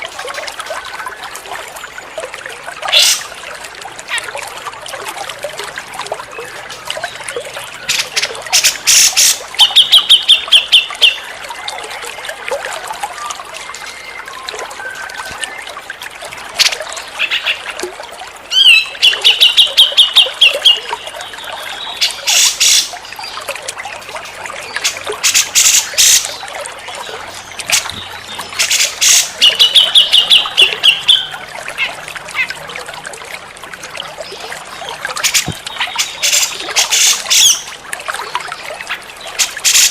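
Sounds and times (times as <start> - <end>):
bird harsh calls and trills: 2.8 - 4.4, 6.2 - 17.8, 18.4 - 32.8, 33.8 - 39.9.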